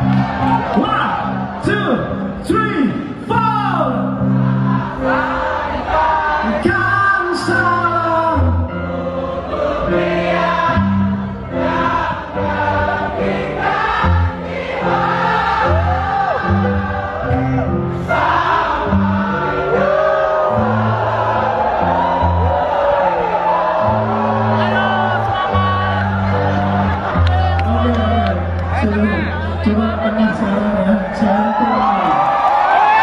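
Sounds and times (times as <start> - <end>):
crowd singing along: 0.0 - 2.3, 3.8 - 33.0.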